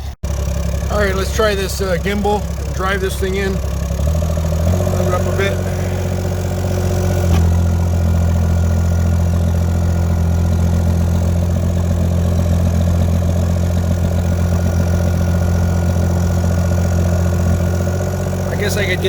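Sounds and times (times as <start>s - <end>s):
small diesel engine running: 0.0s - 19.0s.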